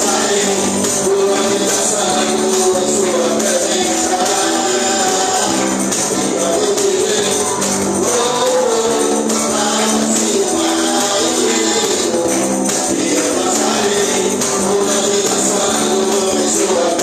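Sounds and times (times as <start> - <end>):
gospel band playing: 0.0 - 17.0
tambourine jangling: 0.0 - 17.0
voices singing: 0.0 - 17.0.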